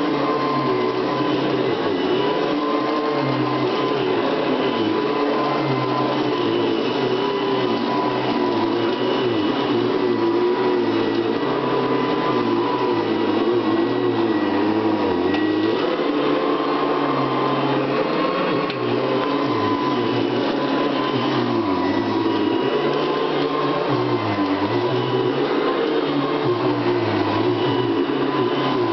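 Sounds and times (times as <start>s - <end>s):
vacuum cleaner running: 0.0s - 28.9s.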